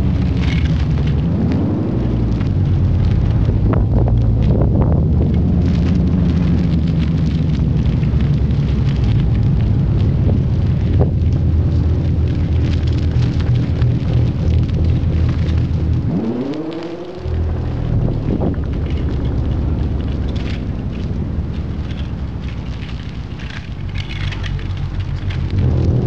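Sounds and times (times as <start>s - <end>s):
bass guitar notes with delay: 0.0s - 26.0s.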